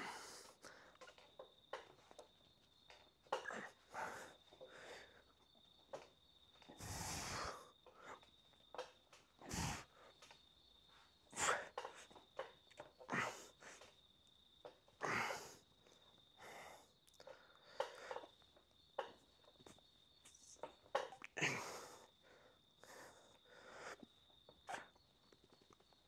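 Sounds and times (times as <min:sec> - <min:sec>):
forceful breaths and exhales: 0:00.0 - 0:02.2, 0:02.9 - 0:10.4, 0:11.2 - 0:14.0, 0:15.0 - 0:19.2, 0:20.5 - 0:25.0.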